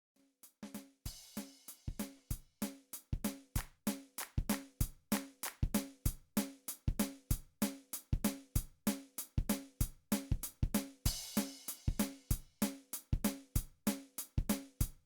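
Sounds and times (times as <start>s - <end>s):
kick and snare drum beat: 0.6s - 15.0s.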